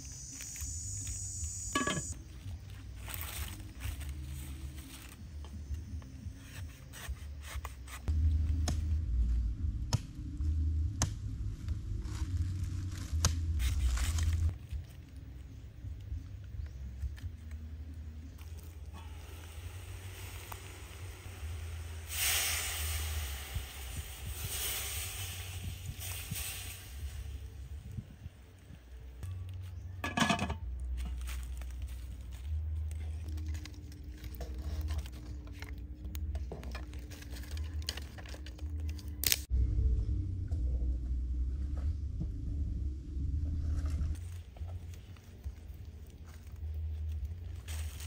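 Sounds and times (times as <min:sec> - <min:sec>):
steady low rumble: 0:08.0 - 0:30.0, 0:30.6 - 0:48.0.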